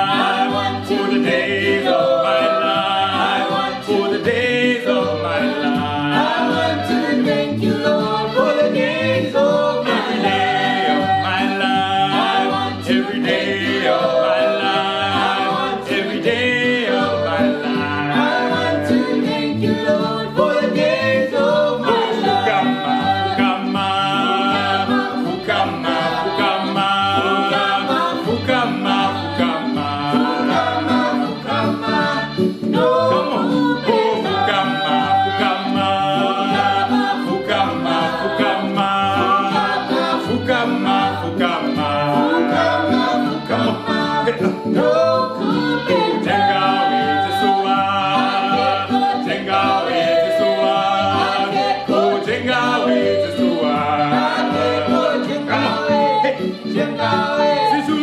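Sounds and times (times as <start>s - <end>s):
gospel group singing: 0.0s - 58.0s
keyboard accompaniment with beat: 0.0s - 58.0s.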